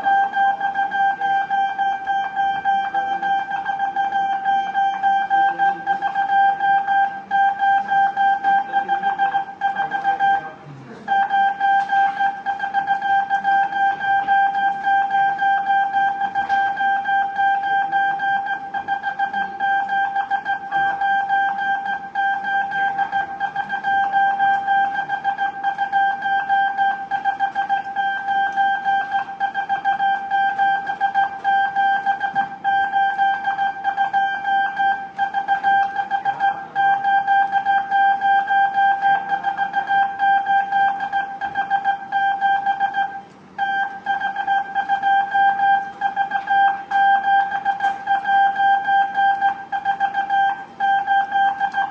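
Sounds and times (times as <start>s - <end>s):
morse code tone keyed: 0.0s - 51.9s.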